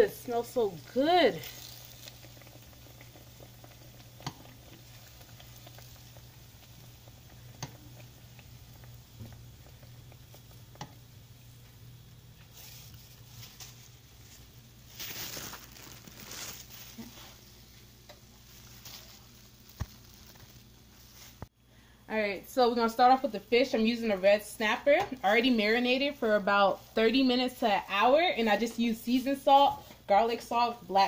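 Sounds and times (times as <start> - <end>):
plantain frying in hot oil: 0.0 - 21.5, 22.5 - 31.0.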